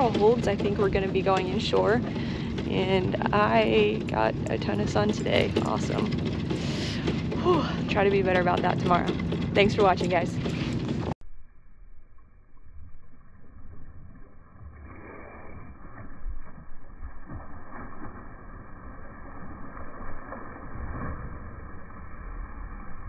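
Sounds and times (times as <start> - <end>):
sea water splashing: 0.0 - 11.2, 12.2 - 23.0
wind: 0.0 - 23.0.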